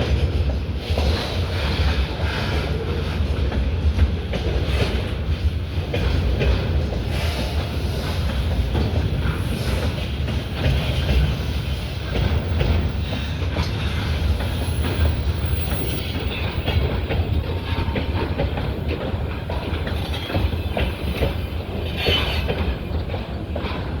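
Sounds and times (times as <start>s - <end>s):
train low rumble: 0.0s - 24.0s
train wheels clattering over rail joints: 0.0s - 24.0s.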